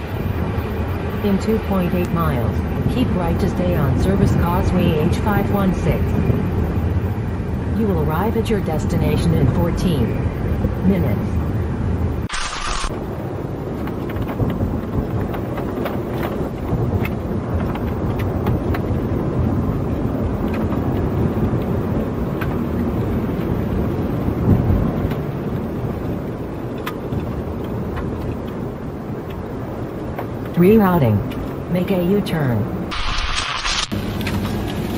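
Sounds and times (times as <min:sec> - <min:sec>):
tyres and engine rumble: 0:00.0 - 0:33.0, 0:33.9 - 0:34.9.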